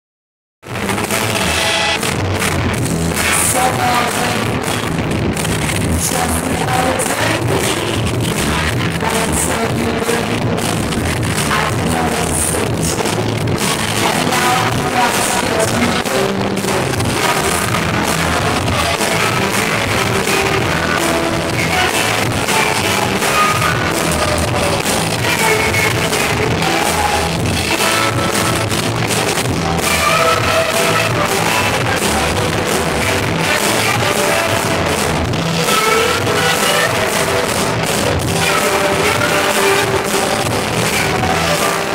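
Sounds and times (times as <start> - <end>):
live rock band: 0.6 - 41.9
woman singing: 3.2 - 4.8, 5.9 - 13.3, 13.9 - 28.7, 29.4 - 41.9.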